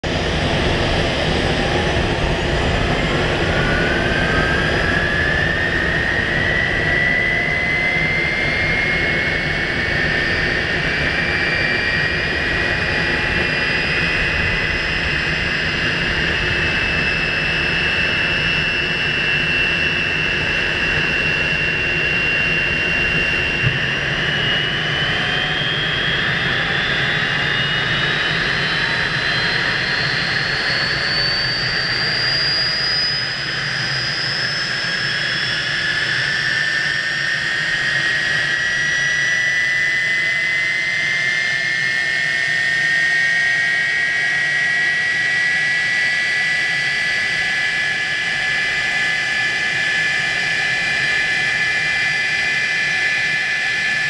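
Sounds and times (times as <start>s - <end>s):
jet engine whine rising: 0.0s - 54.0s.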